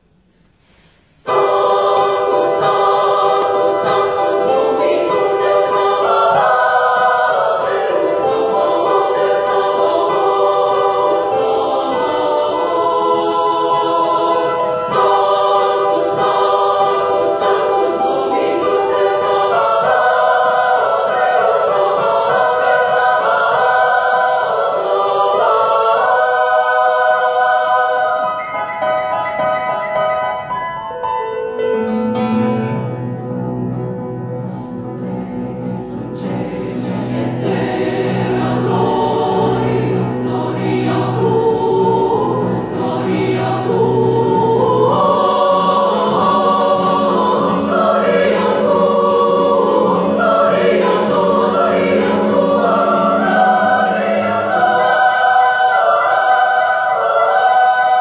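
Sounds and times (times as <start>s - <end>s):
women's choir singing: 0.6s - 28.7s, 34.4s - 58.0s.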